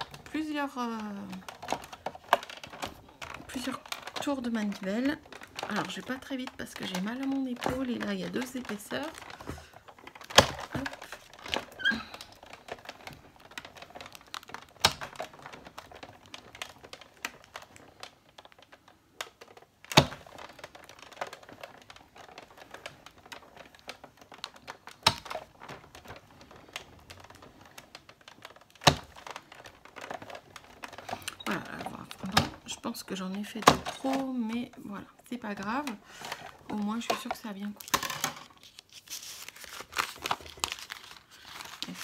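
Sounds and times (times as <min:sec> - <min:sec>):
hand-cranked machine clicking: 0:00.0 - 0:38.8.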